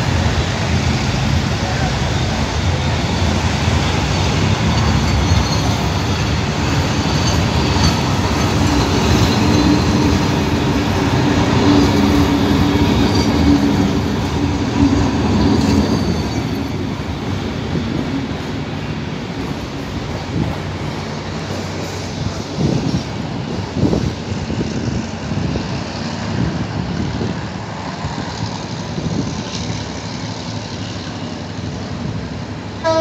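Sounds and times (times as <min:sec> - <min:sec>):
train coaches rumbling past: 0:00.0 - 0:33.0.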